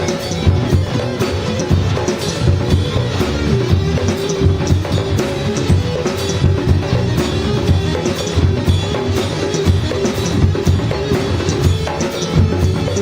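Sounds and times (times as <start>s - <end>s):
drum kit beat: 0.0s - 13.0s
live band playing: 0.0s - 13.0s
low bass notes: 0.0s - 13.0s.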